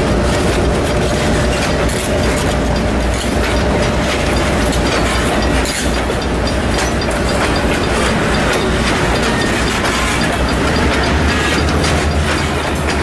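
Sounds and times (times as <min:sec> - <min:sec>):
train wheels rumbling: 0:00.0 - 0:13.0
wheels clicking over rail joints: 0:00.0 - 0:13.0.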